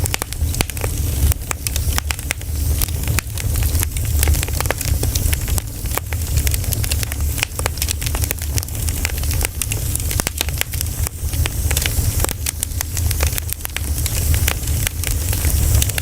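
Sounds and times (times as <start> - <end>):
low fire rumble: 0.0 - 16.0
pine cones crackling in campfire: 0.0 - 16.0.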